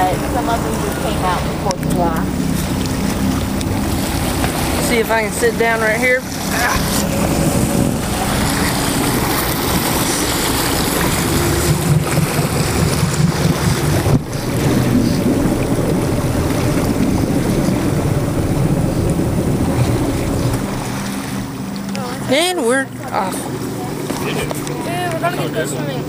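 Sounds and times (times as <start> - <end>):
water splashing along boat hull: 0.0 - 26.0
wind buffeting microphone: 0.0 - 26.0.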